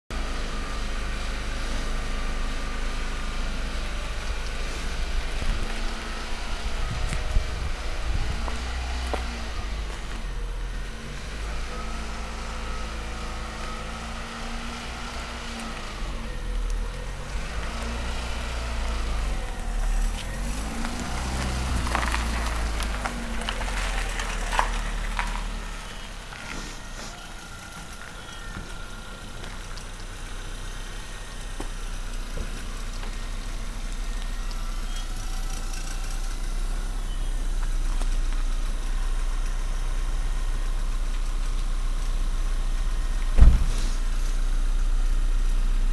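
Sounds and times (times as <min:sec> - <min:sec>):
car engine revving and idling: 0:00.1 - 0:45.9.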